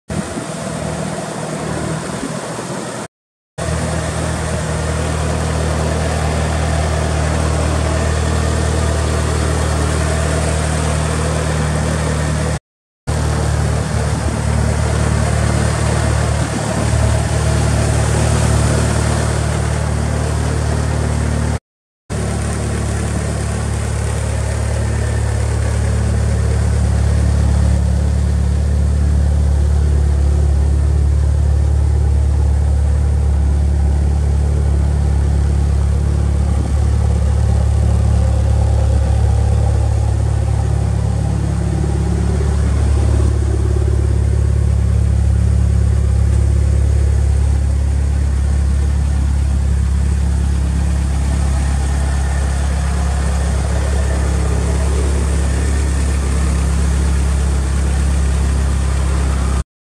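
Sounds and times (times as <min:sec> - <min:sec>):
car engine idling: 0:00.1 - 0:59.6.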